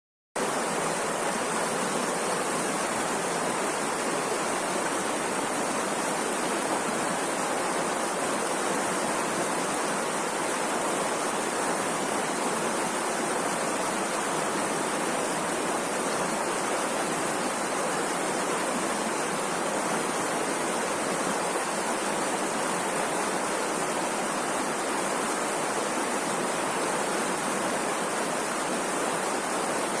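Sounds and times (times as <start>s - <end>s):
rushing river water: 0.4s - 30.0s.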